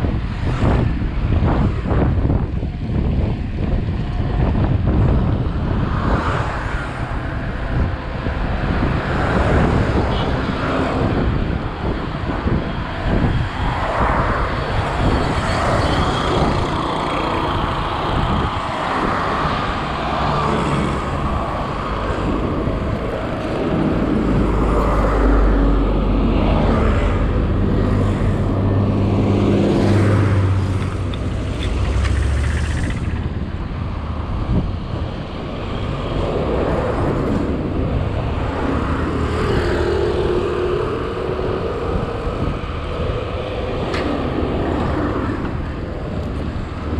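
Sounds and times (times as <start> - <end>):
road noise: 0.0 - 46.9
wind noise: 0.0 - 46.9.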